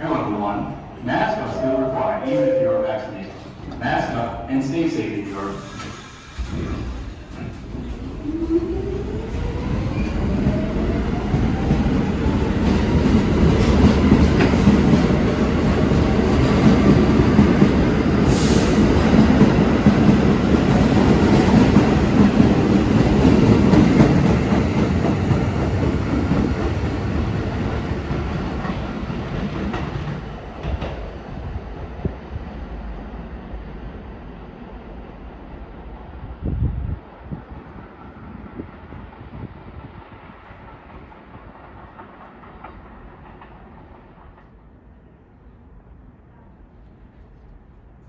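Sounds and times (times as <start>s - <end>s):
subway motors whining: 0.0s - 45.0s.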